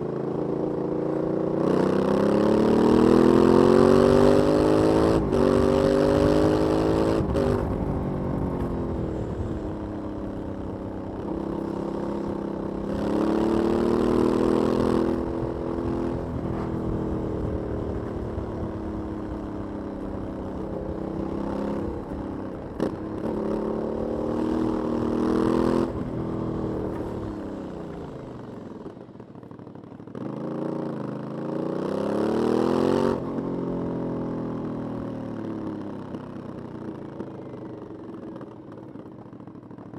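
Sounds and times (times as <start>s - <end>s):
motorcycle engine revving: 0.0s - 29.2s, 30.1s - 35.4s.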